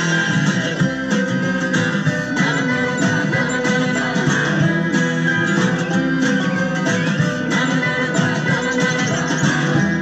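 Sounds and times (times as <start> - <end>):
guitar song from record: 0.0 - 10.0.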